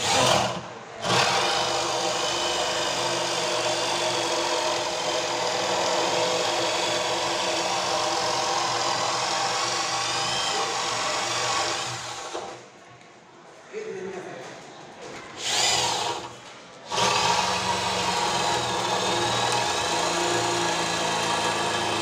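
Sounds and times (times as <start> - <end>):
electric drill boring into wood: 0.0 - 12.6, 15.4 - 22.0.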